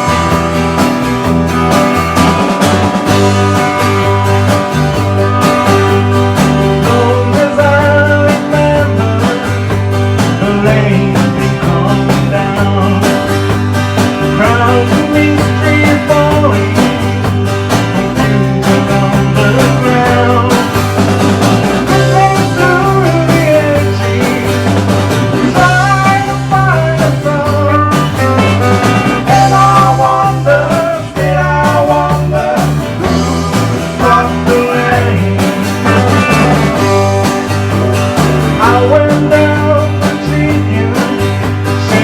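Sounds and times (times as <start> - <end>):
acoustic guitar rock song: 0.0 - 42.0
steady bass line: 0.0 - 42.0.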